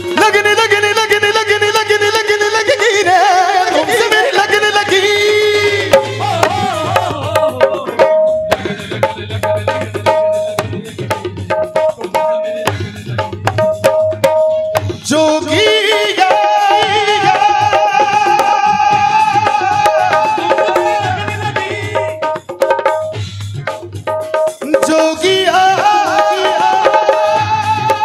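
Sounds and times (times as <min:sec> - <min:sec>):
live band music: 0:00.0 - 0:28.0
tabla strokes: 0:00.0 - 0:28.0.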